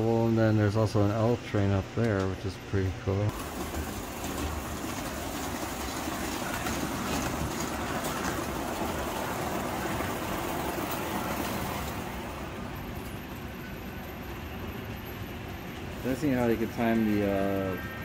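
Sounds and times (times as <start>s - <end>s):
toy electric trains running: 3.3s - 18.0s.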